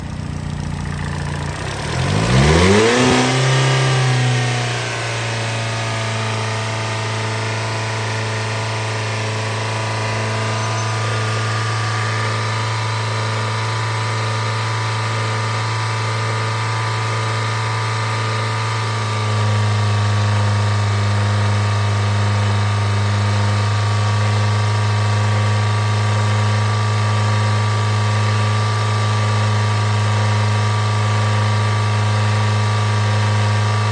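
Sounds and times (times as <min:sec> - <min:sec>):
car engine starting and idling: 0:00.0 - 0:33.9.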